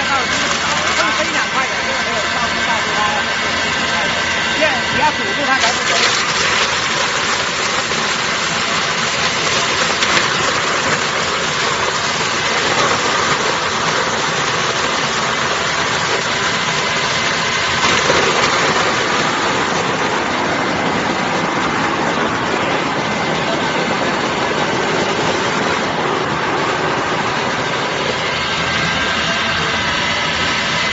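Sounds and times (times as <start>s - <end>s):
coconut grating machine running: 0.0s - 30.9s.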